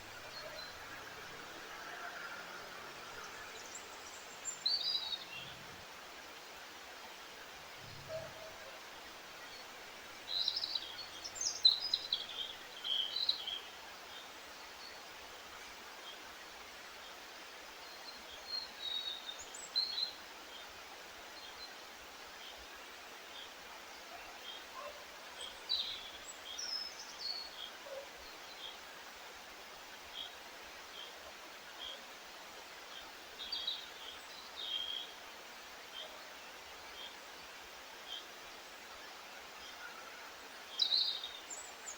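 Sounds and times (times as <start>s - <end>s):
songbirds singing: 0.0s - 6.0s, 7.7s - 41.9s
steady outdoor hiss: 0.0s - 41.9s.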